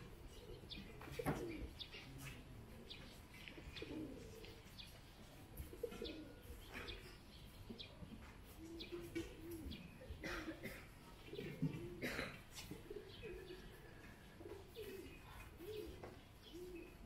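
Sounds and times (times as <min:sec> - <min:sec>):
low cooing bird calls: 0:00.0 - 0:17.0.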